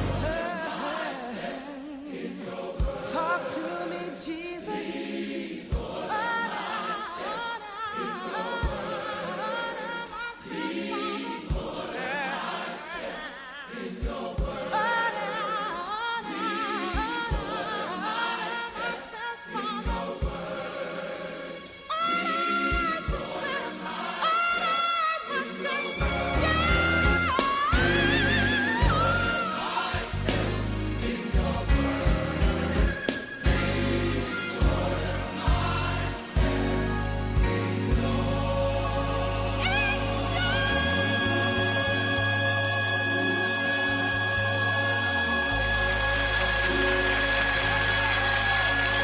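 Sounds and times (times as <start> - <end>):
gospel choir singing: 0.0 - 49.0.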